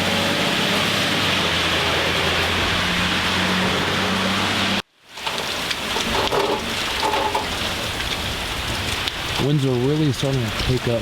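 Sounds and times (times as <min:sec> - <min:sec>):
heavy rain and wind: 0:00.0 - 0:11.0.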